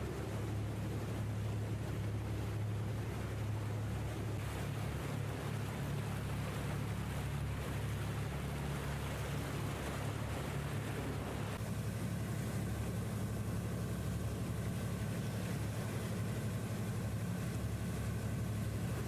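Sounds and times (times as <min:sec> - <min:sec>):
boat engine humming: 0:00.0 - 0:19.0
water rushing: 0:00.0 - 0:19.0
wind: 0:00.0 - 0:19.0.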